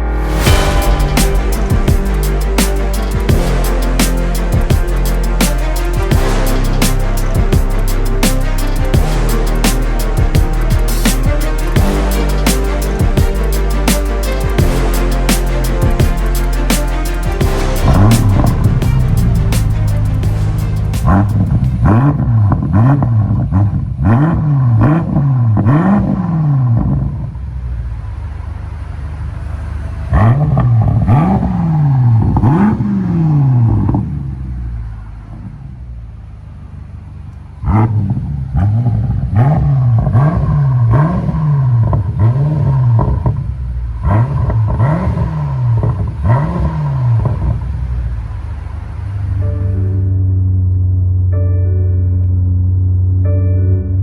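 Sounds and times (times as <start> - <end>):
car engine idling: 0.0 - 24.1, 25.2 - 51.4
car engine revving: 0.0 - 51.2.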